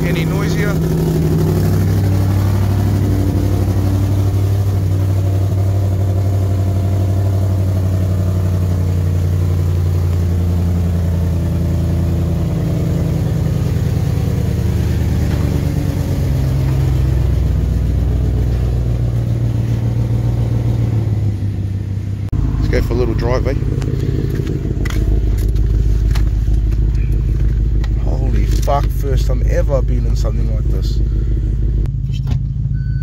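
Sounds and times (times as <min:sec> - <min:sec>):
car engine idling: 0:00.0 - 0:32.8.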